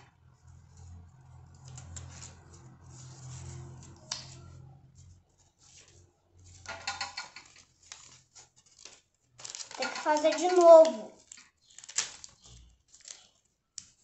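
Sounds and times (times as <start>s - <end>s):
paper rustling: 0.4s - 14.0s
paper crinkling: 0.7s - 14.0s.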